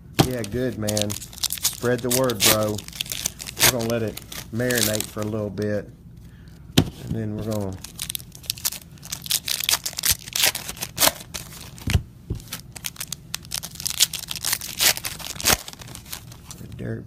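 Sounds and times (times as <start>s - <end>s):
packaging crinkling and tearing: 0.2s - 5.6s, 7.4s - 16.8s.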